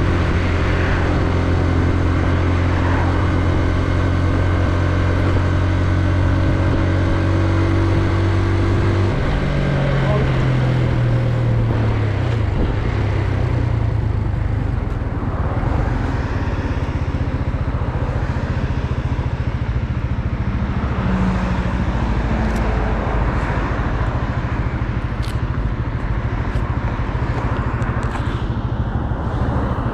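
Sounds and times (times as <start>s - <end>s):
continuous rushing noise: 0.0s - 29.9s
motorcycle engine running: 0.0s - 29.9s.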